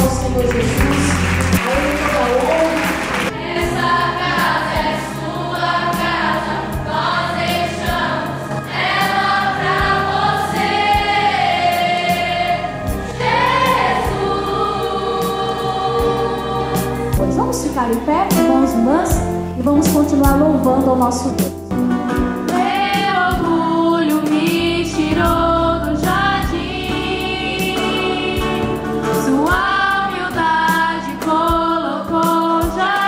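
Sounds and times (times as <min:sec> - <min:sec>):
congregation singing worship song: 0:00.0 - 0:19.4, 0:22.1 - 0:33.0
instrumental backing: 0:00.0 - 0:33.0.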